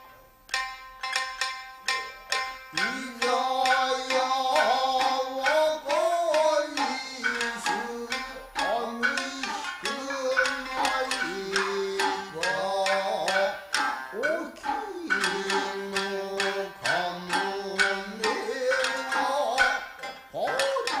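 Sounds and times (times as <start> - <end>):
shamisen plucking: 0.0 - 21.0
person singing long wavering notes: 2.7 - 21.0.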